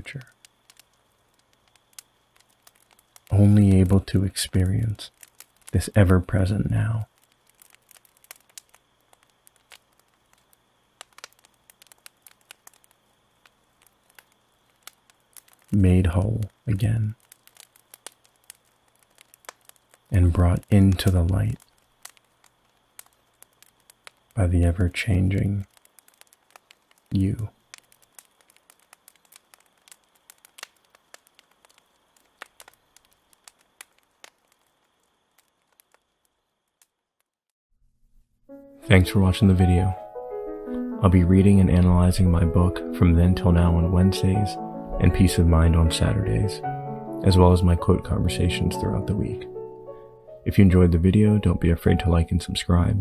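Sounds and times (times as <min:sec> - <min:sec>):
faint crackling clicks and pops: 0:00.0 - 0:53.0.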